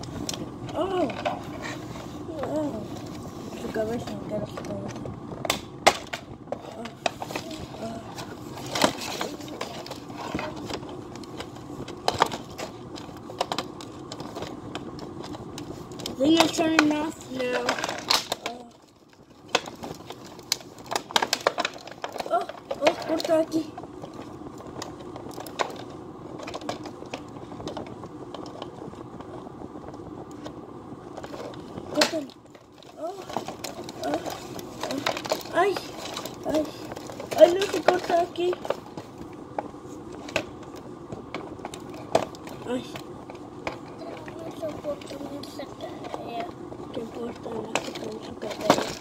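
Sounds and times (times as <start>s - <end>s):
plastic crackling and rustling: 0.0s - 49.0s
plastic packaging crinkling: 0.0s - 49.0s.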